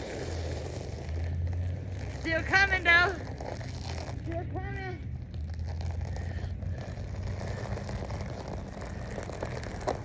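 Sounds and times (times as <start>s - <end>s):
sled scraping over icy snow: 0.0s - 10.0s.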